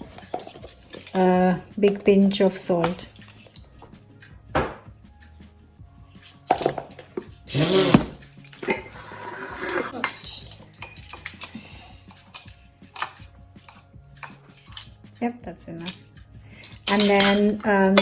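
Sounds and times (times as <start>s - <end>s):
utensils clinking against a mug: 0.0s - 4.9s, 6.1s - 15.0s, 15.7s - 18.0s.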